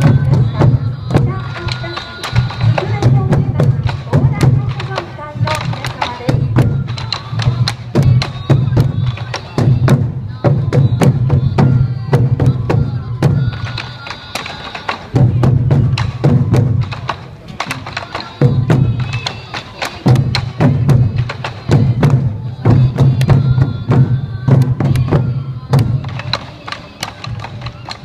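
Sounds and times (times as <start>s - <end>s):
bamboo flute high notes: 0.0s - 28.0s
taiko drums beating: 0.0s - 28.0s.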